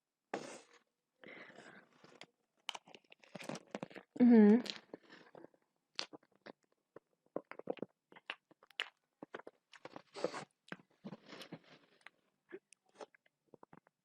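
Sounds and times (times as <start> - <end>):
person chewing food: 1.5 - 13.9
mouth clicks and crunches: 2.0 - 13.9.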